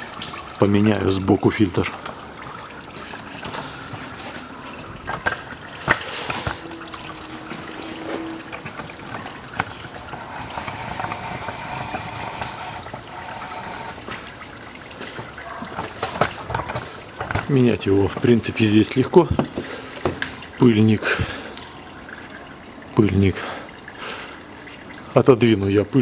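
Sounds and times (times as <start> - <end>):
fluid trickling into a drain pan: 0.0 - 26.0.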